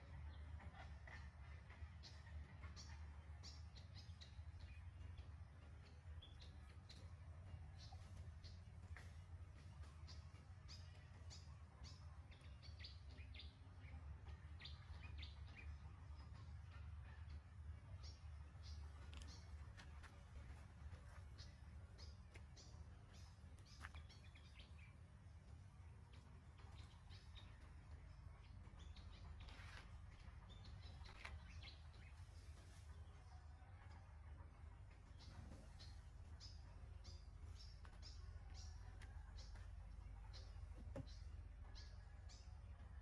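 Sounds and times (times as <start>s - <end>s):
low steady hum: 0.0s - 43.0s
low steady rumble: 0.0s - 43.0s.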